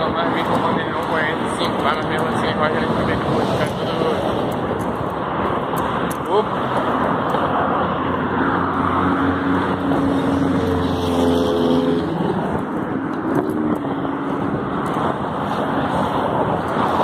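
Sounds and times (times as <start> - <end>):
rush of traffic: 0.0 - 17.0
vehicle passing: 0.0 - 17.0.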